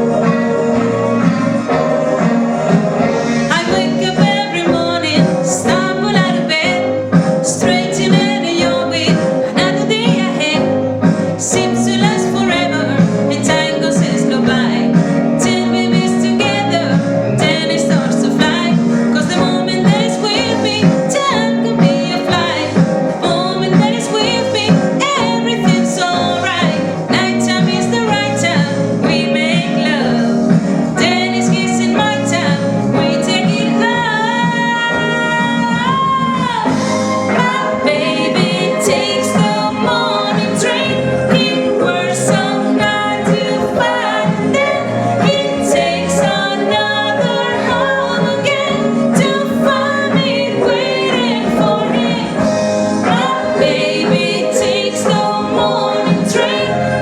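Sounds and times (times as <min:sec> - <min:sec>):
upbeat pop song: 0:00.0 - 0:57.0.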